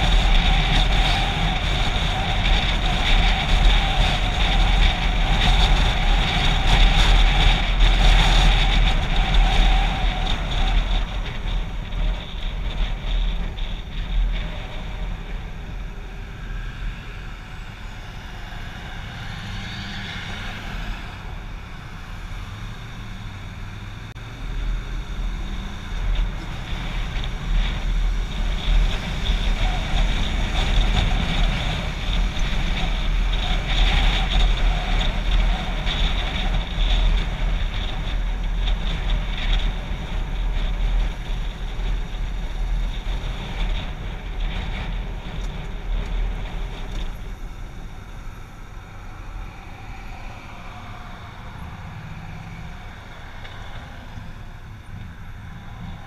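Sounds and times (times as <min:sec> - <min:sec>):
motorcycle engine rumble: 0:00.0 - 0:56.0
wind rushing over microphone: 0:00.0 - 0:56.0.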